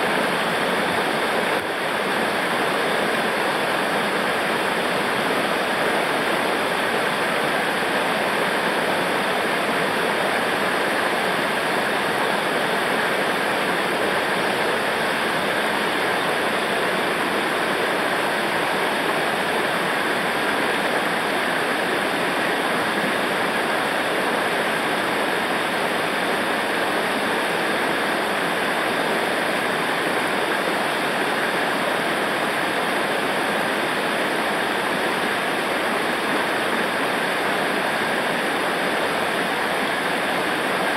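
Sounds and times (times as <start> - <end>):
river water rushing over rapids: 0.0 - 40.9.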